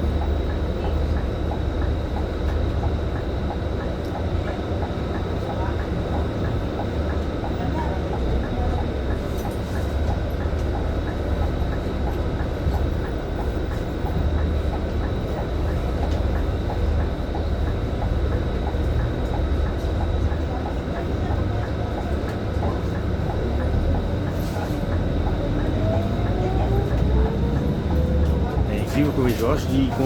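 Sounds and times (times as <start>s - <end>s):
bus engine and road drone: 0.0s - 30.0s.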